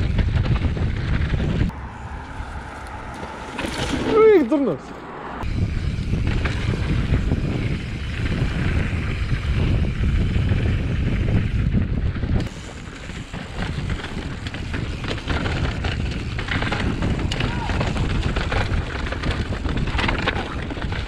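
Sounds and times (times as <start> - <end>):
bike tyres rattling over rocks: 0.0 - 1.7, 3.2 - 4.7, 5.5 - 21.0
wind buffeting microphone: 0.0 - 4.3, 5.4 - 21.0.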